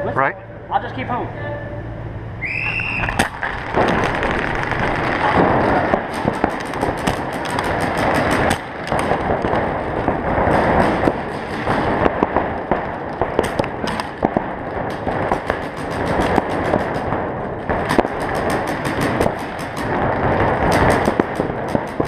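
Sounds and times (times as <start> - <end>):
steady background din: 0.0 - 22.0.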